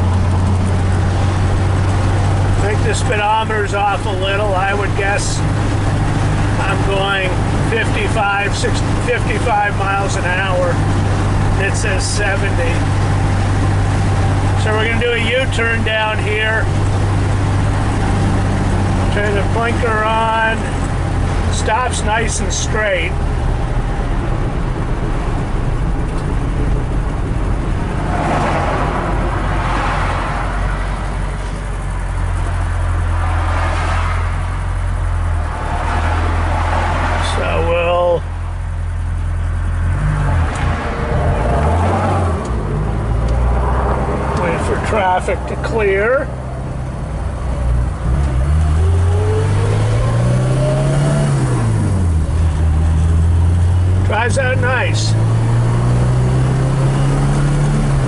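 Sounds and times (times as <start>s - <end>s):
car engine running at low revs: 0.0s - 58.0s.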